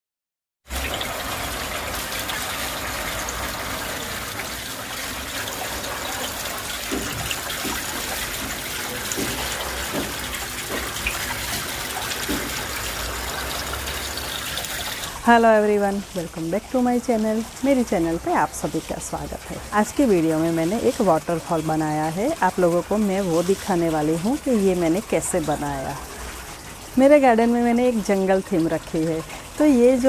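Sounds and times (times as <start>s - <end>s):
water splashing down garden fountain: 0.7s - 30.0s.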